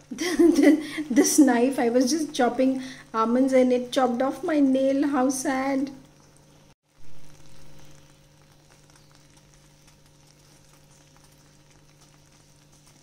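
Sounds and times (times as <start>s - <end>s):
sweet sizzling in ghee: 0.0s - 13.0s.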